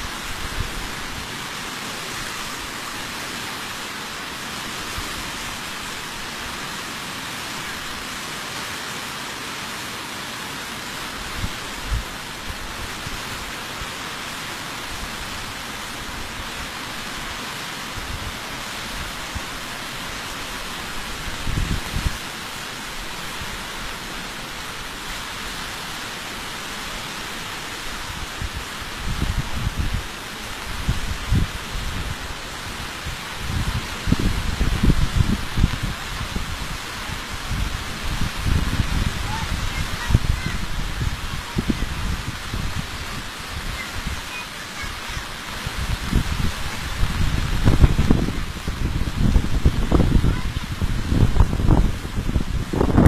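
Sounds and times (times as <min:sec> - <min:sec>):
flood water rushing: 0:00.0 - 0:53.0.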